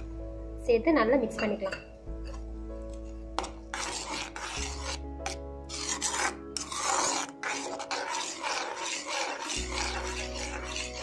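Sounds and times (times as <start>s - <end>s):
steel spoon scraping a pan: 1.7s - 11.0s.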